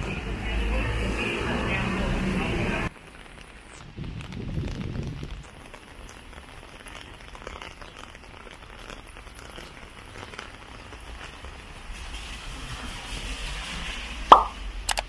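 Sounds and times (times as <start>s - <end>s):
rain falling on wet street: 0.0s - 15.0s.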